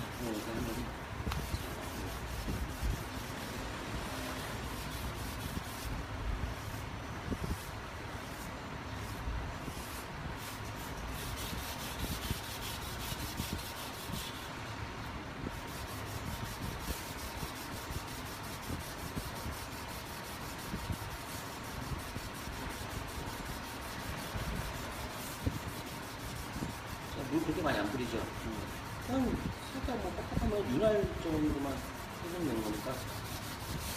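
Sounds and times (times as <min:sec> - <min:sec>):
sanding block scrubbing: 0:00.0 - 0:14.5, 0:15.5 - 0:33.9.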